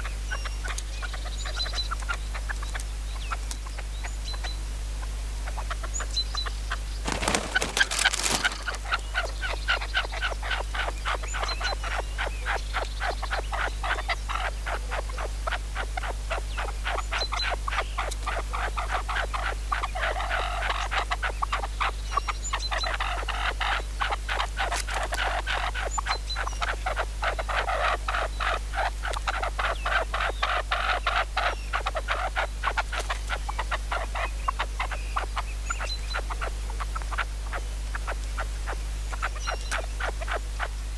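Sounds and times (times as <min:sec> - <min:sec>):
partridges chattering calls: 0:05.4 - 0:40.7.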